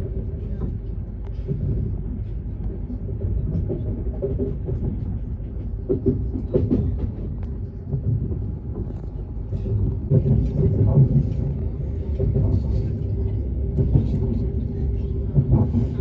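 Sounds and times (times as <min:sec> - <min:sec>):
train rumble from inside: 0:00.0 - 0:16.0.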